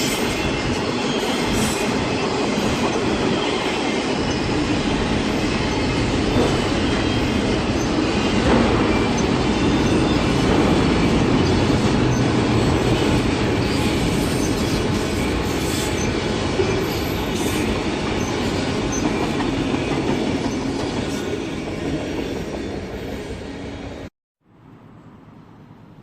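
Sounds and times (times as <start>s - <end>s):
train rolling past: 0.0s - 26.0s.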